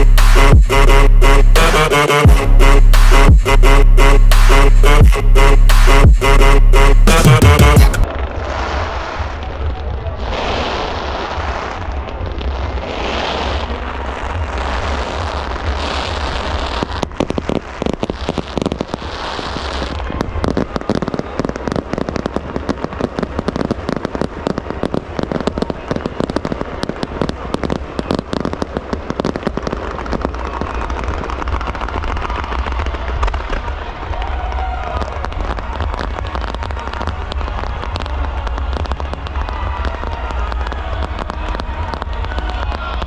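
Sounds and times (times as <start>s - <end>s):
fireworks crackling bursts: 0.0s - 43.0s
fireworks hissing: 7.1s - 43.0s.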